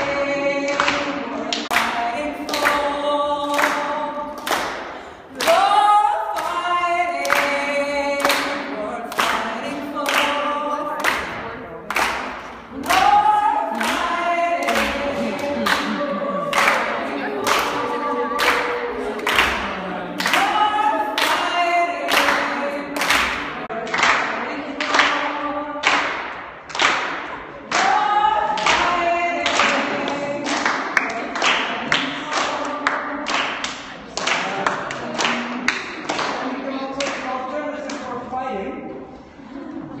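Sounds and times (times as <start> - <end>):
group singing long held notes: 0.0 - 26.2, 27.5 - 36.4.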